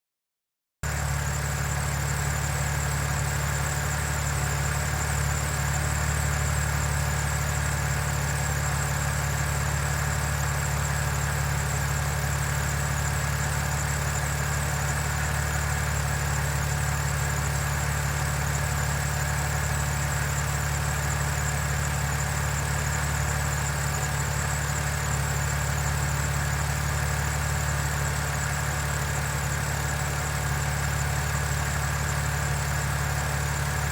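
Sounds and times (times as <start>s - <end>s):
car engine idling: 0.9s - 33.9s.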